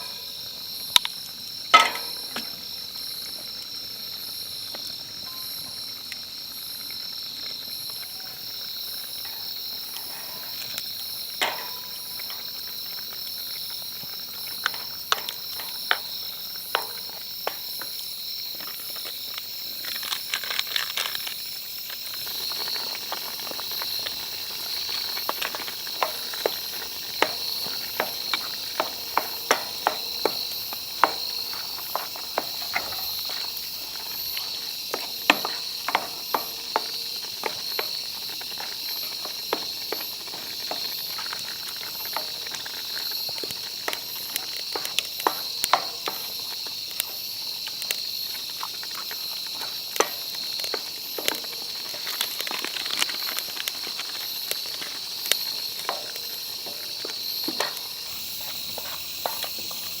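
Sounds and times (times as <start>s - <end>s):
campfire crackling and popping: 0.0s - 60.0s
insects trilling: 0.0s - 60.0s.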